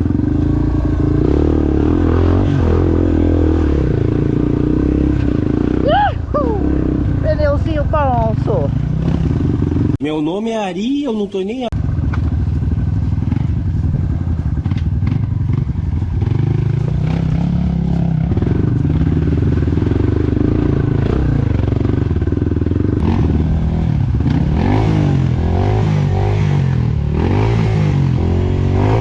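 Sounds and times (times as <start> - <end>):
dirt bike engine revving: 0.0 - 10.0, 11.8 - 29.0.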